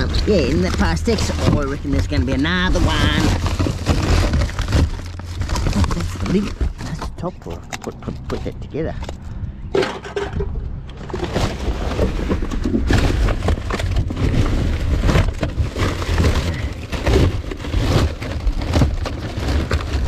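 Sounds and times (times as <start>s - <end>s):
plastic bags rustling: 0.0s - 20.0s.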